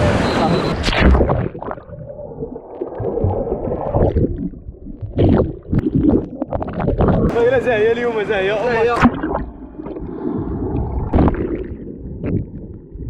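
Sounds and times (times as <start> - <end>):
water splashes: 0.0 - 12.9
muffled underwater water noise: 0.0 - 13.0.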